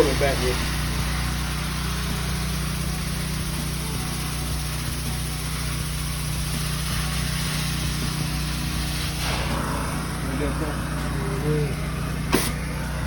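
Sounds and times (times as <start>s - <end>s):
carpet cleaning machine motor hum: 0.0s - 13.0s.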